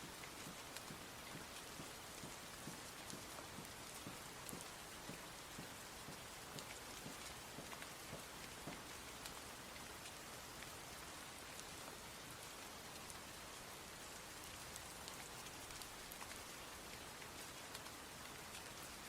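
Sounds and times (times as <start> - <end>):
raindrops ticking close by: 0.0 - 19.0
steady rain falling: 0.0 - 19.0.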